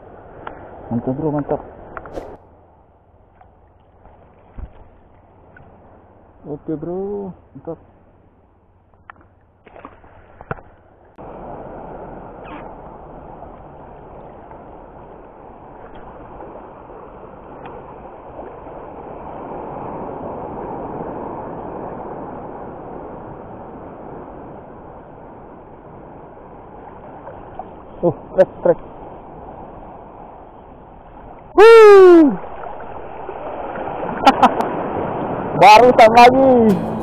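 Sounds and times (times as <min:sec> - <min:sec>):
sea water rushing and sloshing: 0:00.0 - 0:37.0.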